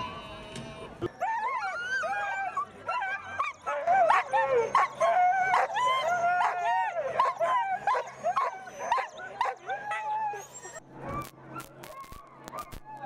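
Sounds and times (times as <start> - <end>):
dogs barking and howling: 1.1 - 13.0.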